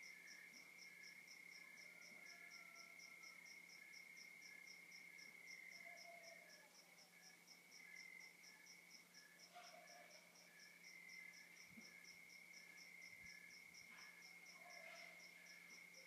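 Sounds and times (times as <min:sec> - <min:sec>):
cricket steady trill: 0:00.0 - 0:16.0.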